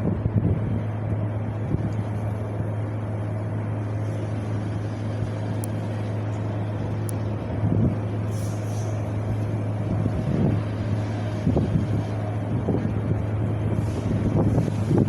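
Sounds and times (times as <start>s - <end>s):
wind blowing: 0.0s - 15.0s
wind buffeting microphone: 0.0s - 15.0s.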